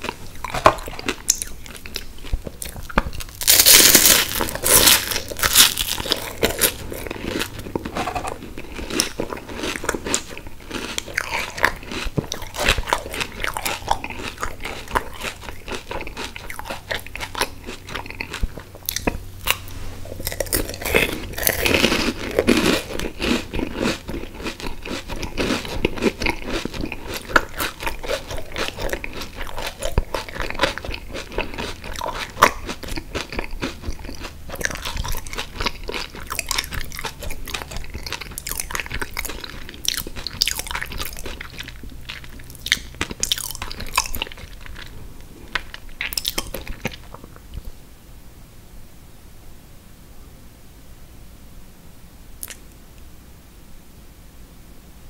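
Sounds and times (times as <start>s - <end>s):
chewing crunchy ice cream cone: 0.0s - 47.7s.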